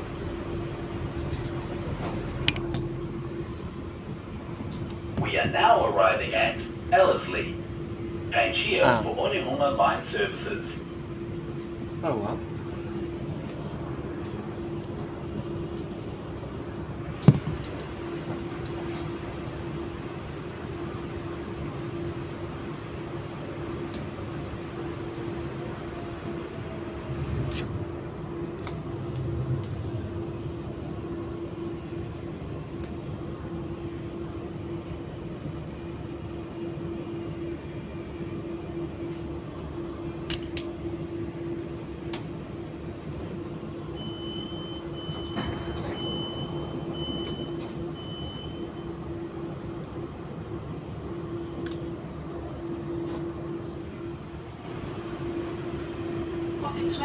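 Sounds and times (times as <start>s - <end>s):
electric train hum: 0.0s - 57.0s.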